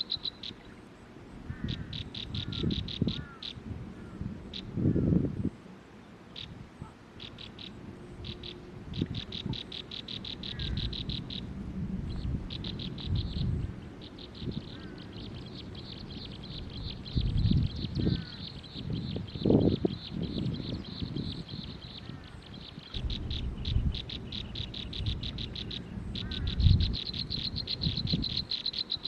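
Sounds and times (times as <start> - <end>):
low rumbling noise: 0.7 - 28.6.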